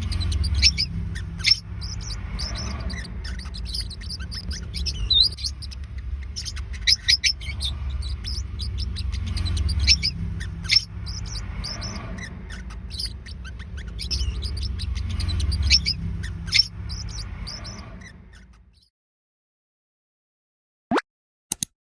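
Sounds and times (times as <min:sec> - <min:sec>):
low rumble: 0:00.0 - 0:18.4
parrotlets chirping: 0:00.0 - 0:18.9.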